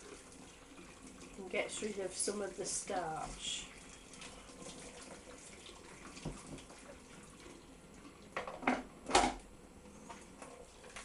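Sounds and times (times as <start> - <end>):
water trickling through sieve: 0.0 - 8.4, 10.0 - 11.0.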